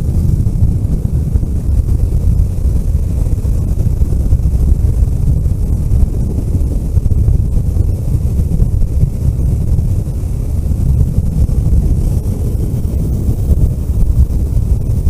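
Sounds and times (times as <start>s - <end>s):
vehicle engine and road noise: 0.0s - 15.0s
wind buffeting microphone: 0.0s - 15.0s.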